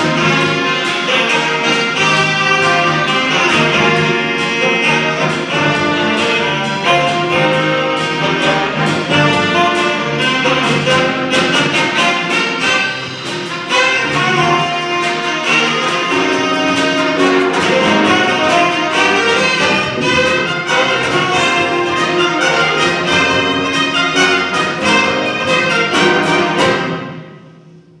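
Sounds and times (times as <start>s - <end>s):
jazz big band playing: 0.0s - 28.0s.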